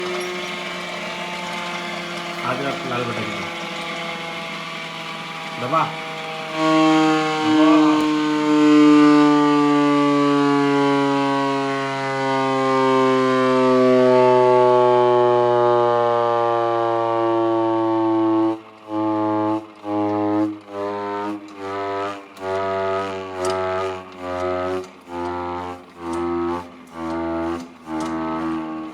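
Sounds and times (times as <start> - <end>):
hand-cranked fog horn blasts: 0.0 - 28.9.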